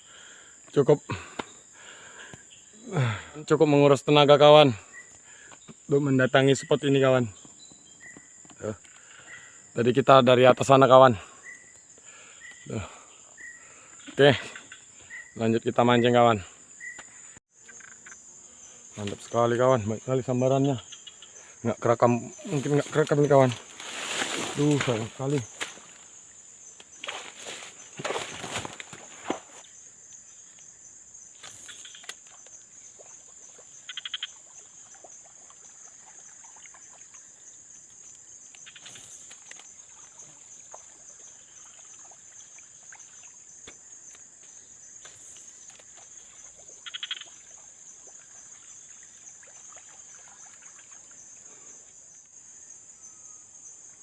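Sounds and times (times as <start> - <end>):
insects droning high-pitched: 0.0 - 54.0.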